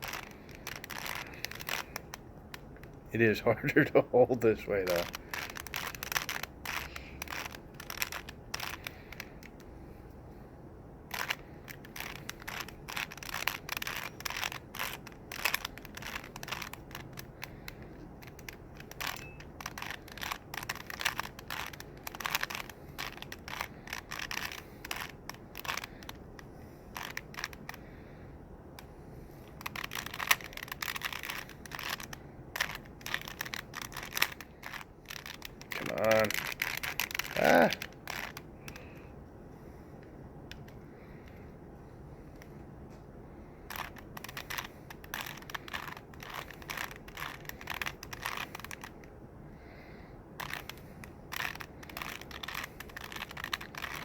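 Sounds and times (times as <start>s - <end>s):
puzzle cube clicking as turned: 0.0s - 9.7s, 11.0s - 27.8s, 28.8s - 39.0s, 40.4s - 41.4s, 43.6s - 49.1s, 50.4s - 54.0s.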